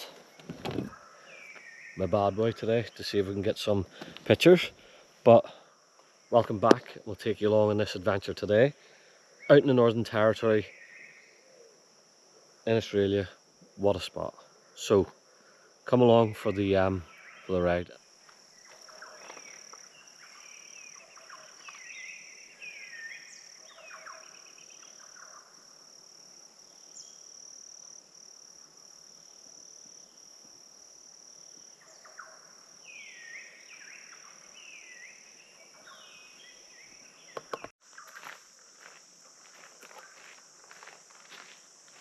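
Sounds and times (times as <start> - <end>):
crickets and insects droning: 0.0 - 42.0.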